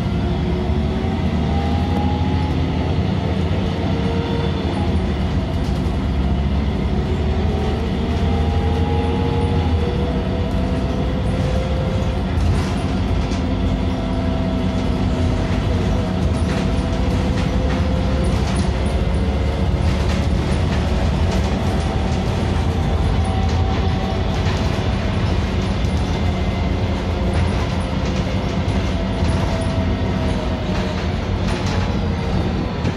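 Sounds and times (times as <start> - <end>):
bus engine and road rumble: 0.0 - 32.9
rattles from bus body: 0.0 - 32.9.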